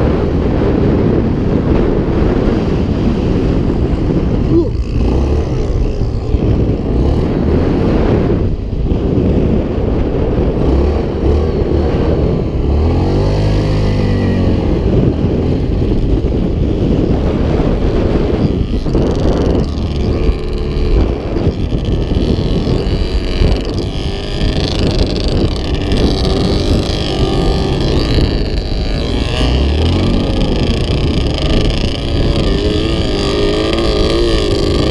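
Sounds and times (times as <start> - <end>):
off-road vehicle engines running: 0.0 - 34.9.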